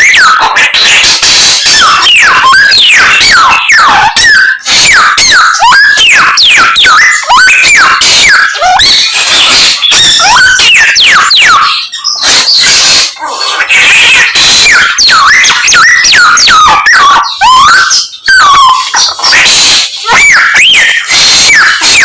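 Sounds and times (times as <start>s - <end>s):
harsh bird chatter: 0.0s - 22.0s.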